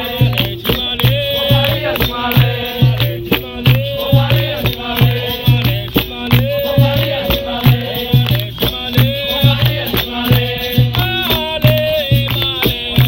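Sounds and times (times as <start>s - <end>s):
berimbau: 0.0s - 13.0s
repeating drum beat: 0.0s - 13.0s.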